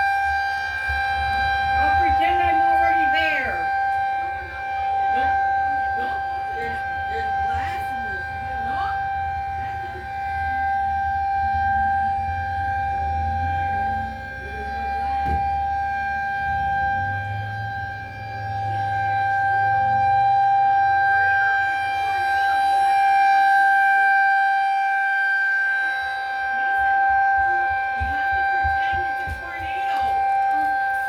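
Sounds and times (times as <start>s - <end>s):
outdoor warning siren: 0.0s - 31.0s.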